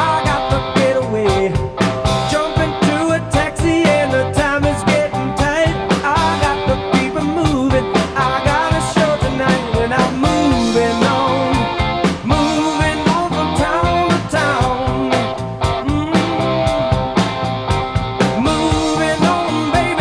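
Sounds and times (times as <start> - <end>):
rock song with guitar: 0.0 - 20.0
steady drum beat: 0.0 - 20.0.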